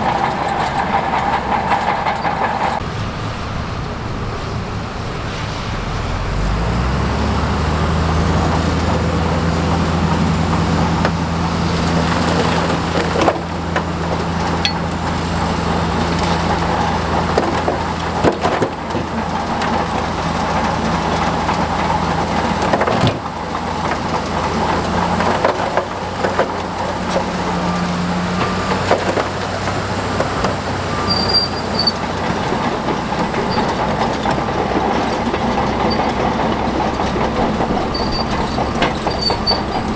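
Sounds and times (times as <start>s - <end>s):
machine clanking: 0.0s - 6.4s, 7.3s - 39.9s
bulldozer diesel engine: 0.0s - 39.9s.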